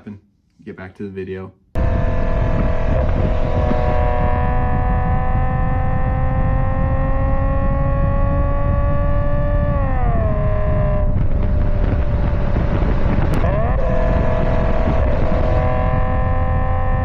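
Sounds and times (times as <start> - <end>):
flat-six engine running: 1.8 - 17.0.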